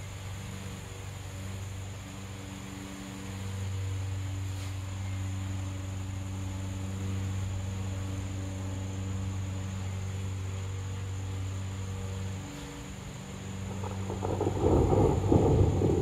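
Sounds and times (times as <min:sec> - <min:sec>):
distant lawn mower engine: 0:00.0 - 0:16.0
high insect drone: 0:00.0 - 0:16.0.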